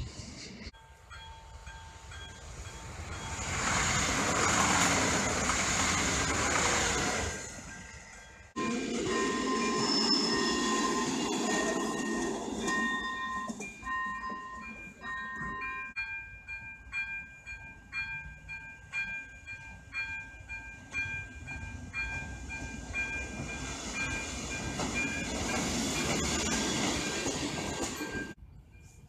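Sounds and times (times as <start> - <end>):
train running past: 0.0 - 16.0, 17.6 - 29.0
diesel railcar rumble: 0.0 - 29.0
level crossing warning bell: 0.7 - 3.6, 7.4 - 29.0
two-tone crossing warning: 0.8 - 29.0.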